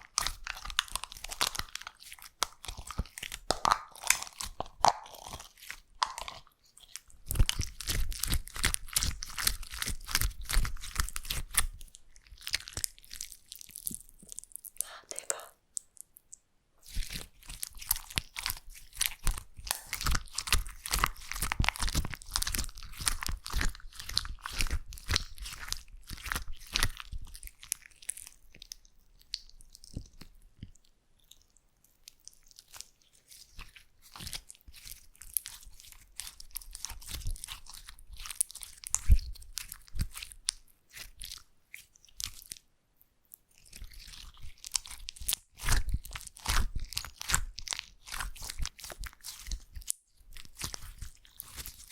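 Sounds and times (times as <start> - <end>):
slime crackling and popping: 0.0 - 42.7, 43.3 - 51.9.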